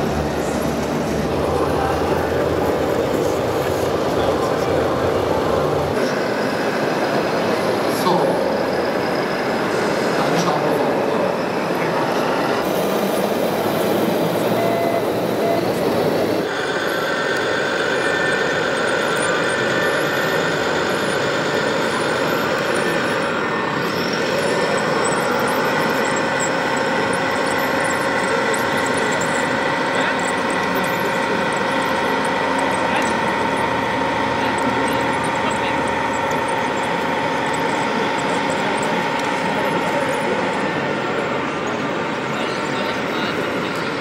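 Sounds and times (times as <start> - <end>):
electric motors whining: 0.0 - 44.0.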